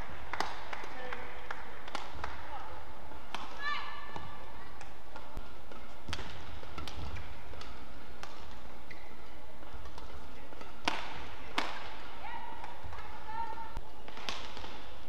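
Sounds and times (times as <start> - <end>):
rackets striking shuttlecock: 0.0 - 2.4, 3.1 - 15.0
low arena hum: 0.0 - 15.0.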